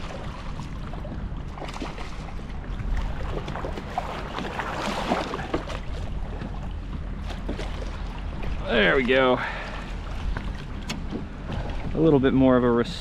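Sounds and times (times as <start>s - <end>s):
fish thrashing and splashing water: 0.0s - 12.0s
low wind rumble on microphone: 0.0s - 13.0s.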